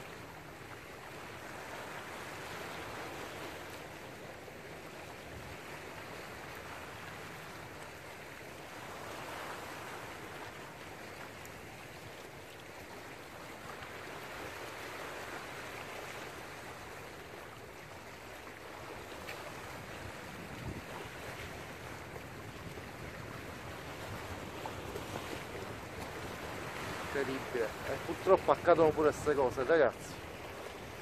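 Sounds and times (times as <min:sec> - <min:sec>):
waves washing over rocks: 0:00.0 - 0:31.0.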